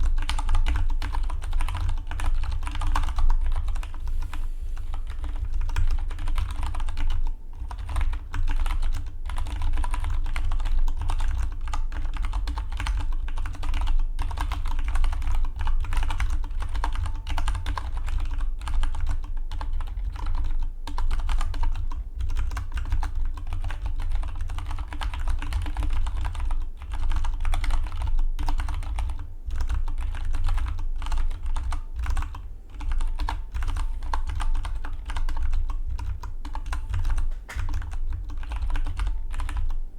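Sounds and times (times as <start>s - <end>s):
mechanical keyboard typing: 0.0s - 4.0s, 4.9s - 39.8s.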